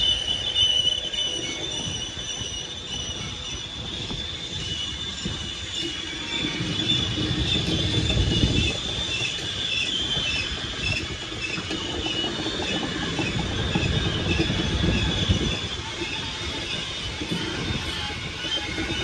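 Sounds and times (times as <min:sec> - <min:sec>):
train wheel squeal: 0:00.0 - 0:19.0
train wheels rumbling and clattering: 0:00.0 - 0:19.0.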